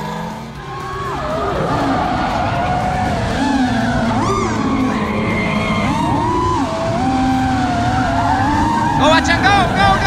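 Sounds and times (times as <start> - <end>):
car engines revving: 0.0 - 10.0
tyres skidding: 0.0 - 10.0.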